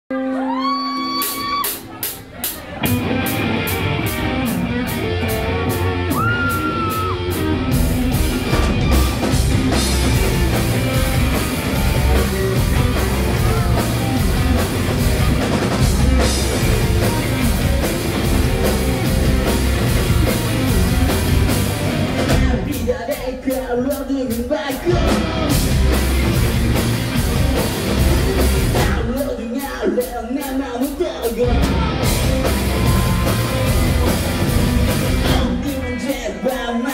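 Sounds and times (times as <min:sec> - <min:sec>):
distorted electric guitars: 0:00.1 - 0:22.9, 0:24.8 - 0:29.3, 0:31.4 - 0:36.9
bass guitar: 0:00.1 - 0:23.2, 0:24.3 - 0:30.1, 0:31.2 - 0:36.8
drum kit: 0:00.5 - 0:36.6.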